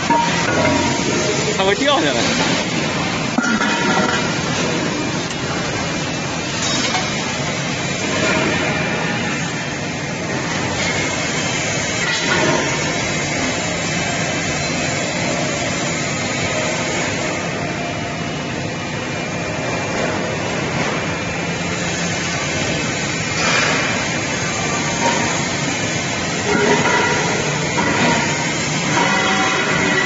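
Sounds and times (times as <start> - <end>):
workshop machinery hiss and hum: 0.0 - 30.0.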